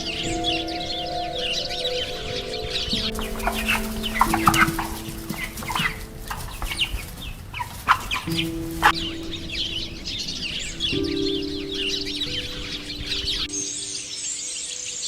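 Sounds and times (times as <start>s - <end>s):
birds calling: 0.0s - 15.0s
music holding long notes: 0.0s - 15.0s.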